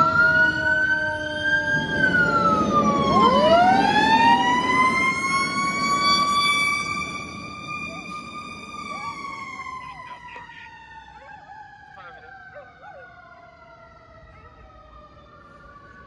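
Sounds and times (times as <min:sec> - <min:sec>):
fire truck siren: 0:00.0 - 0:16.0.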